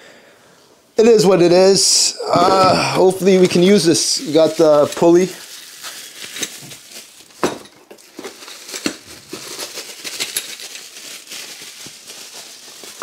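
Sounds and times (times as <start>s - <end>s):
bubble wrap and plastic crinkling: 2.1s - 13.0s.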